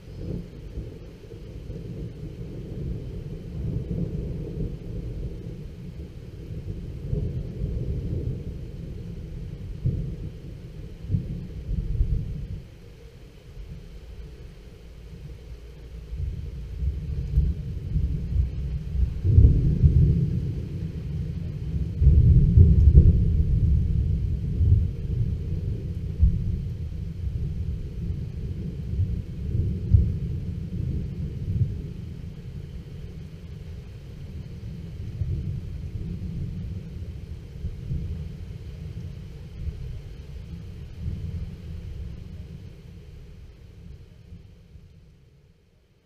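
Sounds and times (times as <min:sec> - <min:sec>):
rolling thunder: 0:00.0 - 0:12.7, 0:16.0 - 0:43.1.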